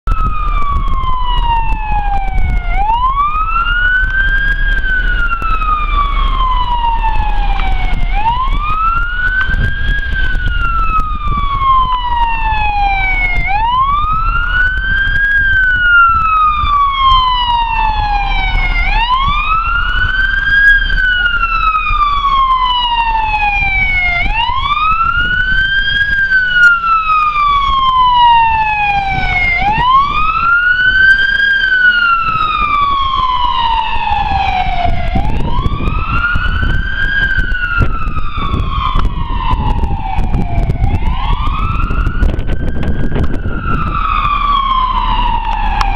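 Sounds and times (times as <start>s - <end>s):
fire engine siren wailing: 0.0s - 45.9s
low rumble: 0.0s - 45.9s.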